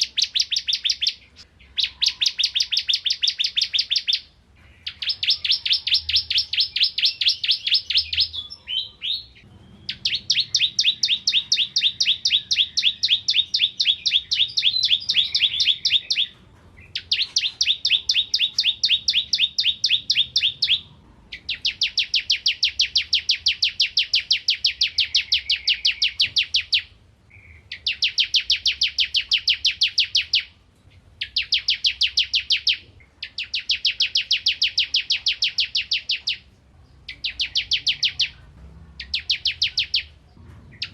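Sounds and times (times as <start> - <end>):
prinia singing rapid chipping notes: 0.0 - 40.9.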